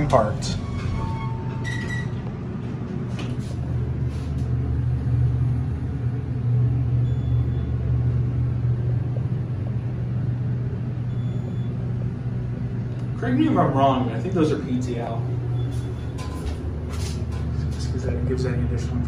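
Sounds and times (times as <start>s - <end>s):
elevator hum and rumble: 0.0s - 19.0s.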